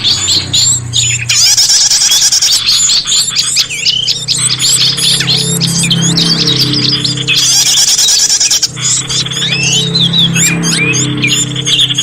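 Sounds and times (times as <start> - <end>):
low steady hum: 0.0 - 12.0
small songbirds chirping: 0.0 - 12.0.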